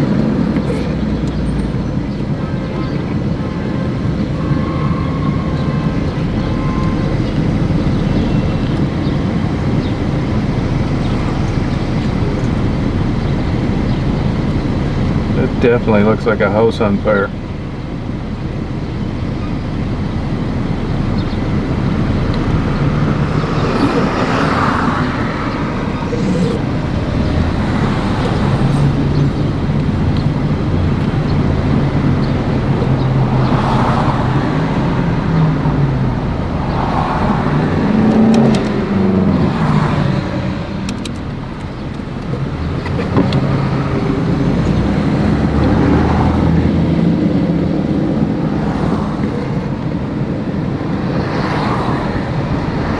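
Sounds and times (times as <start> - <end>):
car engine and road noise: 0.0 - 52.9.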